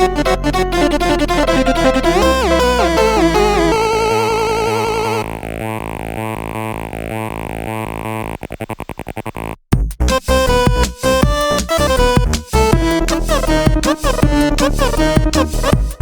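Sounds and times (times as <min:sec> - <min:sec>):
electronic music: 0:00.0 - 0:08.3, 0:10.0 - 0:16.0.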